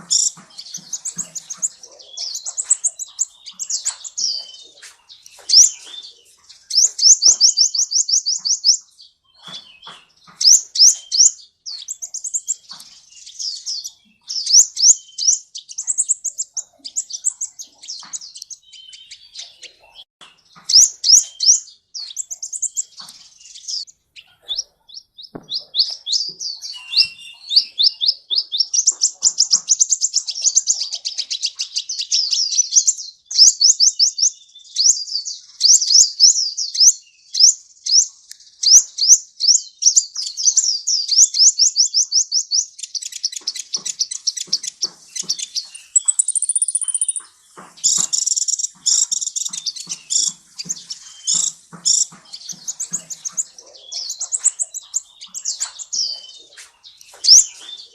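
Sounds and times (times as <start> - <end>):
bird singing rapid trills: 0.0 - 57.9.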